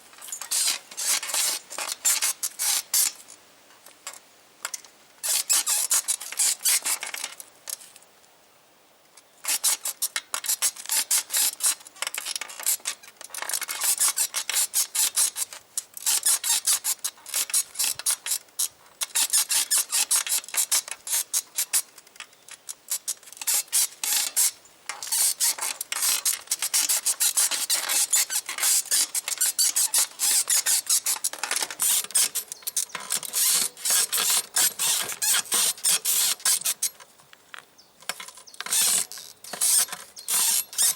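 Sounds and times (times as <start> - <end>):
bicycle saddle springs squeaking: 0.2 - 3.2, 5.2 - 7.2, 9.4 - 37.0, 38.1 - 40.9.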